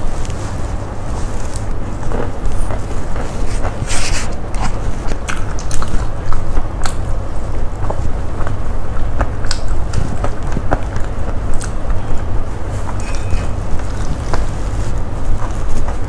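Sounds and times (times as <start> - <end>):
person chewing and crunching food: 0.0 - 16.0
steady low hum: 0.0 - 16.0.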